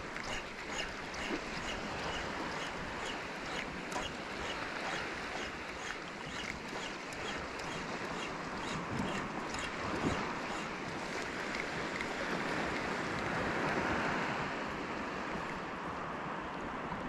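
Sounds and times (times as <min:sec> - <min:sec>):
small waves washing over reef: 0:00.0 - 0:15.9.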